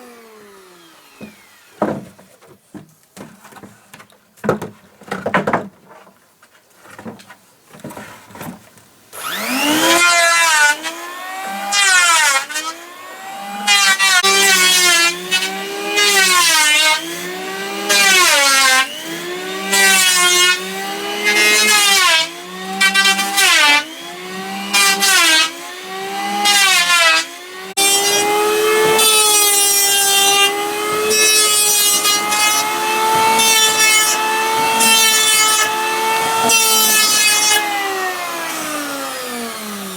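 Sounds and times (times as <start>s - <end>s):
electric hand planer cutting wood: 0.0s - 2.3s, 9.2s - 39.9s.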